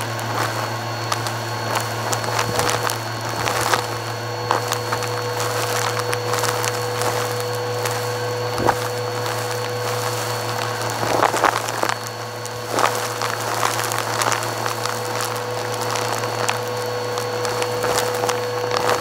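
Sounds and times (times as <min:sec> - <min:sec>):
debris crackling in vacuum hose: 0:00.0 - 0:19.0
vacuum motor whine: 0:00.0 - 0:19.0.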